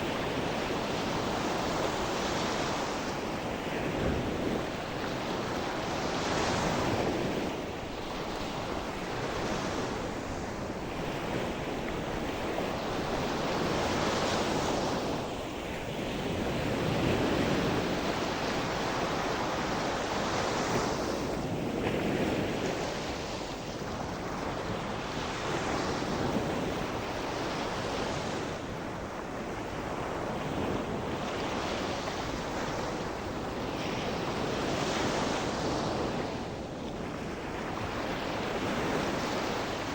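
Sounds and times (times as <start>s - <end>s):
waves breaking on shore: 0.0s - 39.9s
wind on microphone: 0.0s - 39.9s.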